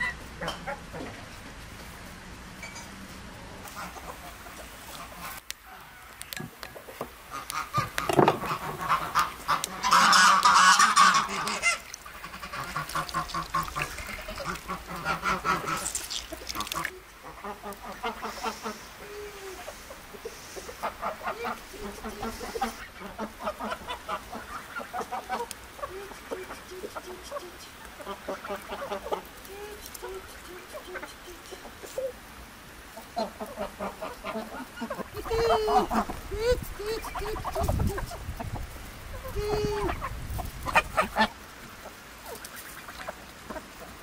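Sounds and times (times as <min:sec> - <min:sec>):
geese honking: 0:00.0 - 0:01.3, 0:03.6 - 0:32.2, 0:32.9 - 0:44.0
chickens clucking: 0:00.0 - 0:01.9, 0:02.6 - 0:44.0.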